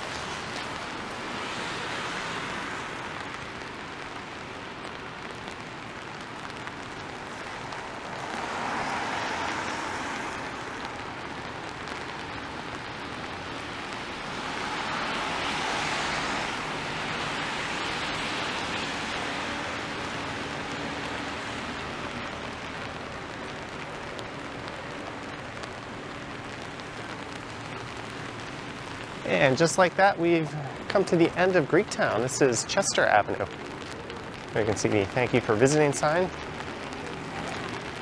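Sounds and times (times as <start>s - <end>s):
rain hissing: 0.0s - 38.0s
tyres swishing on wet road: 0.0s - 38.0s.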